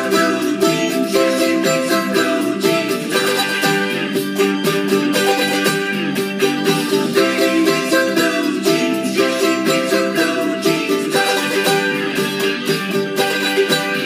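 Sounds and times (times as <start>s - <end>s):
mandolin strumming: 0.0s - 14.0s.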